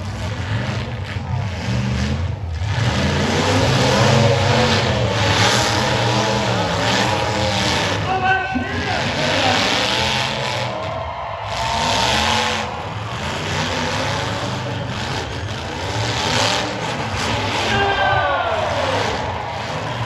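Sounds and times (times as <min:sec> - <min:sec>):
several car engines revving: 0:00.0 - 0:20.0.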